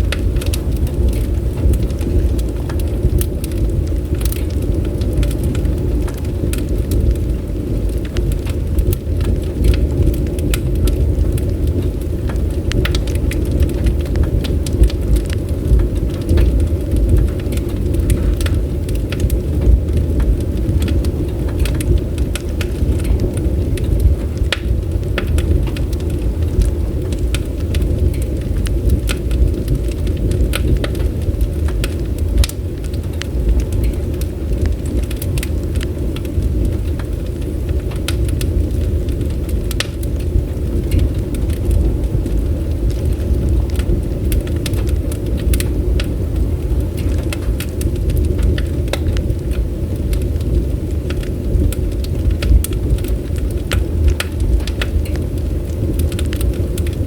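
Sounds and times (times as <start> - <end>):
flames rushing: 0.0 - 57.0
wood crackling and popping: 0.0 - 57.0.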